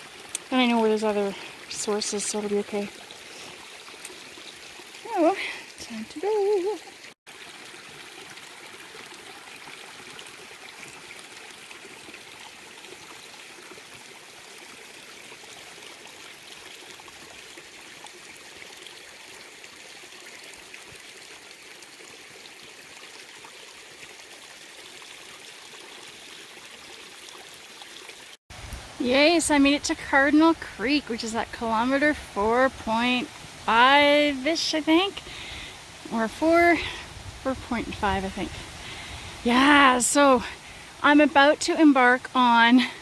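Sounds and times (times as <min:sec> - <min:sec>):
creek flowing: 0:00.0 - 0:43.0.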